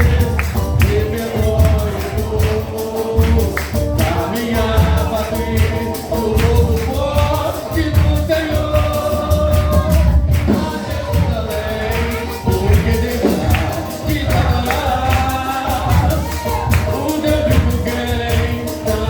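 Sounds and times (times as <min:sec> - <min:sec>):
pulsing bass: 0:00.0 - 0:19.0
tambourine shakes: 0:00.0 - 0:19.0
vocal group singing gospel: 0:00.0 - 0:19.0.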